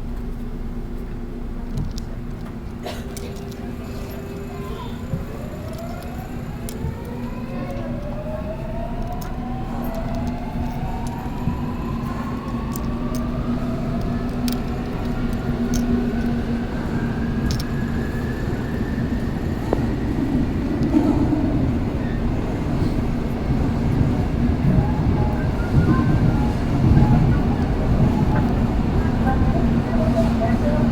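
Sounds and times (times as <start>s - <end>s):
subway train rumble: 0.0s - 30.9s.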